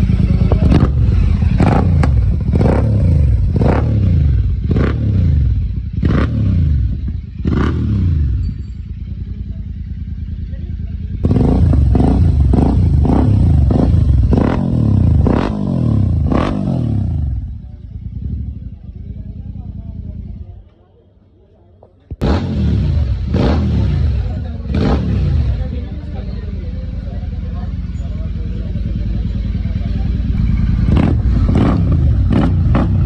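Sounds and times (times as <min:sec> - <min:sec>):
motorcycle engine revving: 0:00.0 - 0:20.6, 0:22.1 - 0:33.0.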